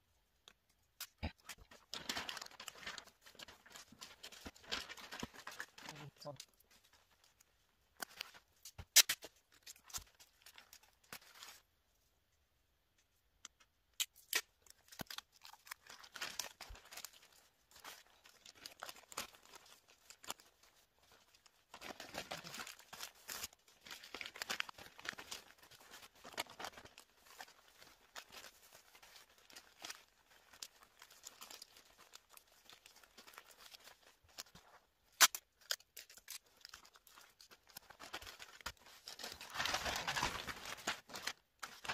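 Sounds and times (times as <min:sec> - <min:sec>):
wrapping paper crinkling: 0:00.7 - 0:11.7, 0:14.0 - 0:41.9.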